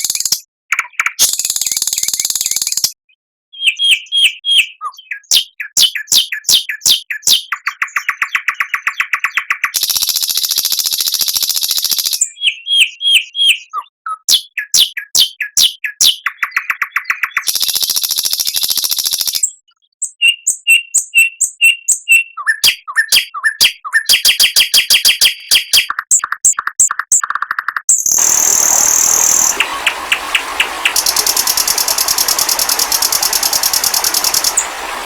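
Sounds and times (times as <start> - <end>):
songbird song: 0.0 - 35.0.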